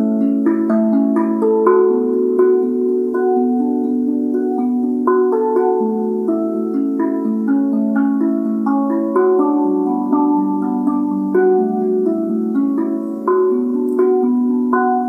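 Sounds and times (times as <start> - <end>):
steel tongue drum melody: 0.0 - 15.0.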